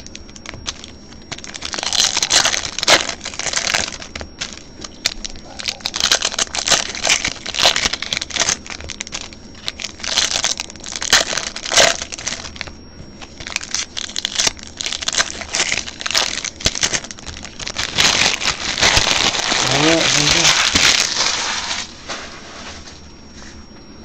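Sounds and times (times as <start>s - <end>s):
foil wrappers crinkling: 0.0s - 23.0s.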